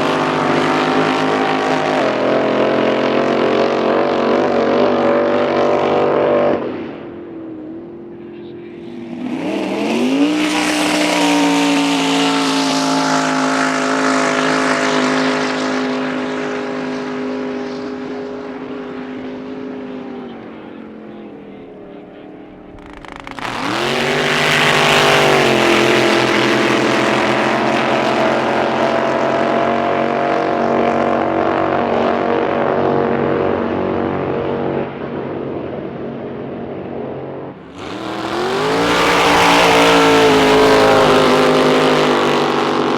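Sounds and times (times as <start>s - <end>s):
drag boat engine revving: 0.0s - 7.2s, 7.8s - 42.9s.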